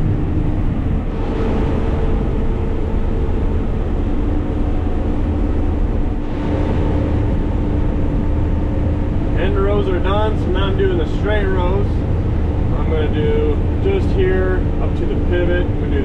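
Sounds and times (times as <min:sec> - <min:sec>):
harvester engine and machinery drone: 0:00.0 - 0:16.0.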